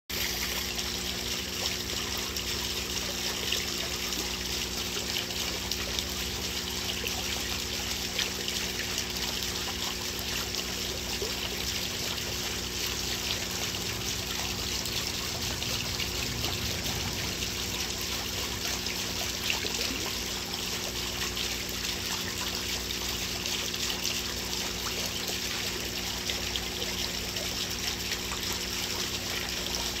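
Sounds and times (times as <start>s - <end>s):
water trickling into pond: 0.1s - 30.0s.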